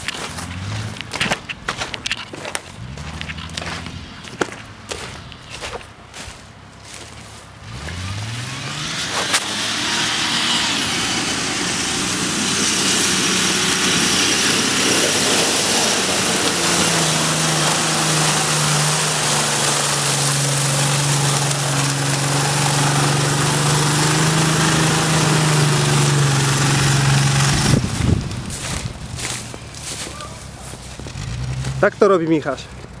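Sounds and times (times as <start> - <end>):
tyres churning mud: 0.0 - 33.0
engine revving hard: 0.2 - 1.3, 2.6 - 6.3, 6.9 - 32.6.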